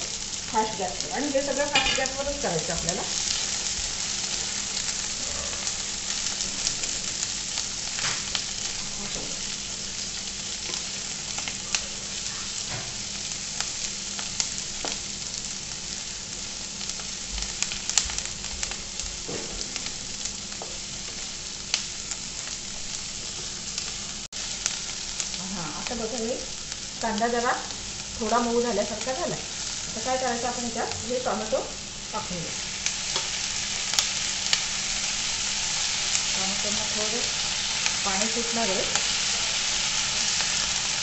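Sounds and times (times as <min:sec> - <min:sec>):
onions sizzling in hot oil: 0:00.0 - 0:41.0.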